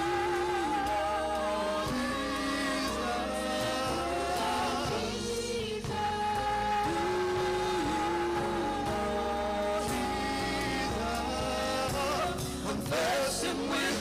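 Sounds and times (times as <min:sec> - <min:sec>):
gospel singing with vibrato: 0:00.0 - 0:14.0.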